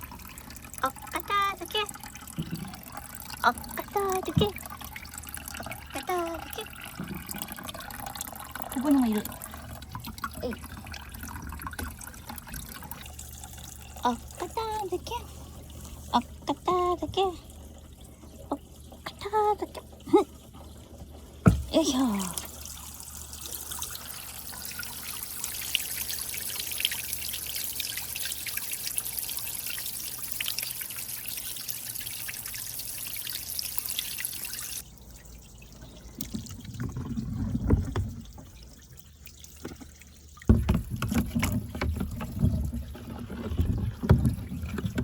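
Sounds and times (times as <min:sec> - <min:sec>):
water trickling and splashing: 0:00.0 - 0:45.0.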